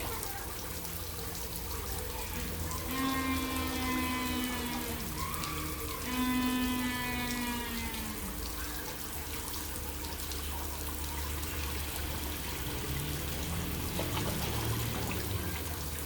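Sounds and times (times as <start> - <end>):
water trickling and pouring: 0.0 - 16.0.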